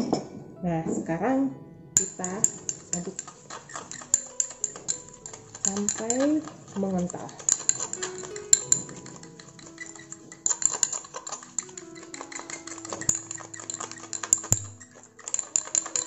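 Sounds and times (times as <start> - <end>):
fork clinking against glass bowl: 2.0 - 16.0.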